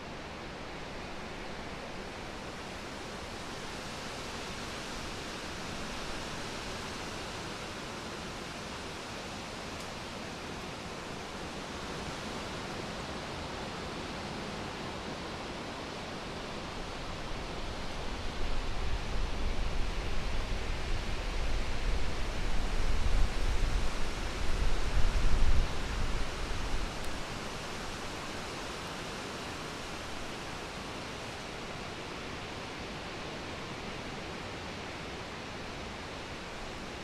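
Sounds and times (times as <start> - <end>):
wind in leafy trees: 0.0 - 37.0.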